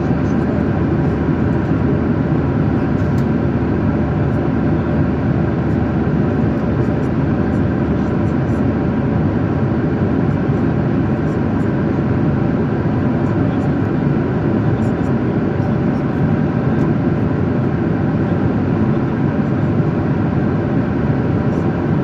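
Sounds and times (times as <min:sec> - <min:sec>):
jet airliner cabin hum: 0:00.0 - 0:22.0.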